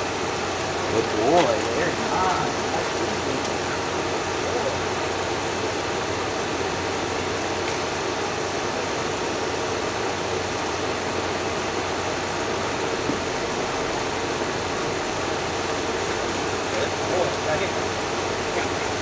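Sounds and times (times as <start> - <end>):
air conditioner running: 0.0 - 19.0.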